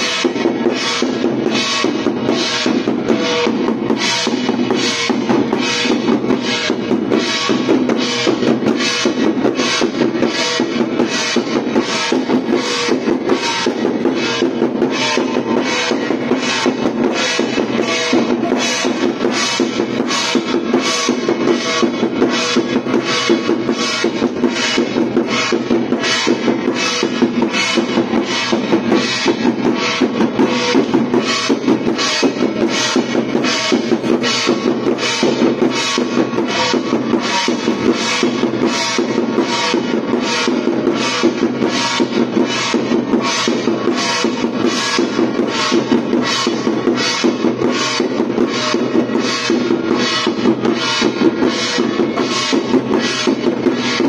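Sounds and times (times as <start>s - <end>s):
cymbals clashing: 0.0s - 54.0s
drum beating: 0.0s - 54.0s.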